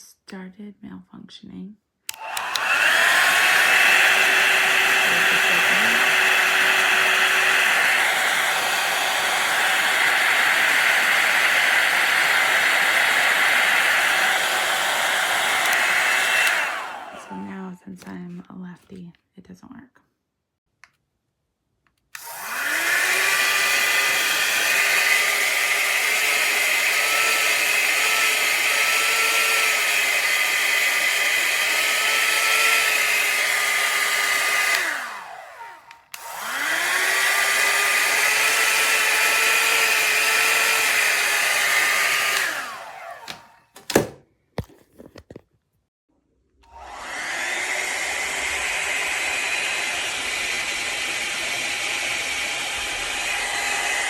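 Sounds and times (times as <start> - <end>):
hot air styler whirring: 2.1 - 17.7, 22.2 - 43.9, 46.6 - 54.0.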